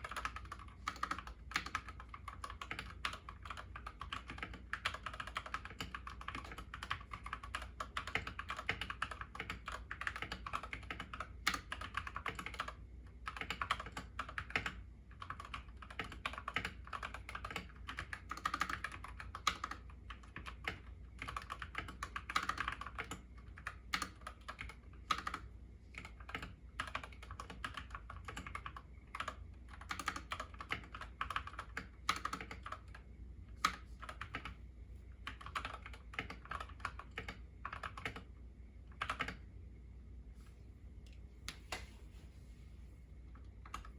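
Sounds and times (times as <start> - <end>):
mechanical keyboard typing: 0.0 - 33.0, 33.6 - 34.6, 35.2 - 38.3, 38.9 - 39.4.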